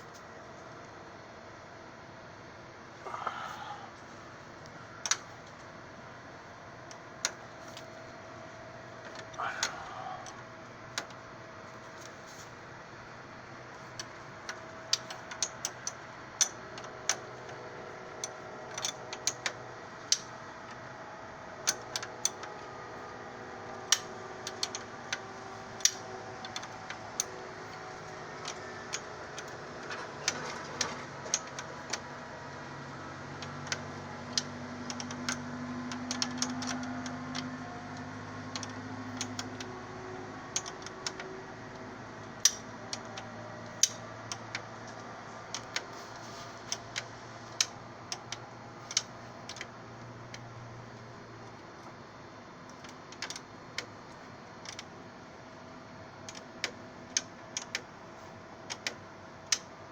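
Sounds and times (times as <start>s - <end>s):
steady background hum: 0.0s - 59.9s.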